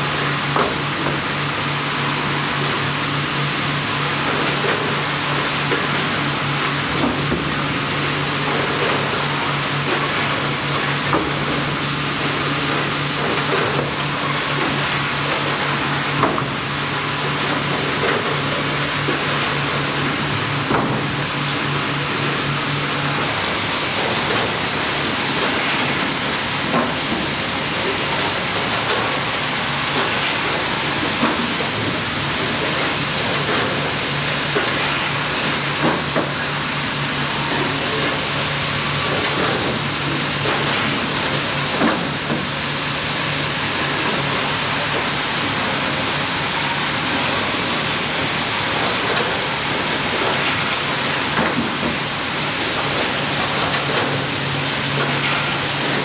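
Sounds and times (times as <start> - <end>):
sawmill conveyor noise: 0.0 - 56.0.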